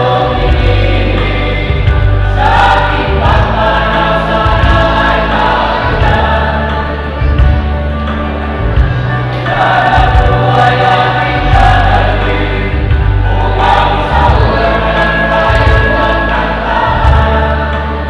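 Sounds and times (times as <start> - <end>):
choir singing: 0.0 - 18.0
low instrumental bass line: 0.0 - 18.0.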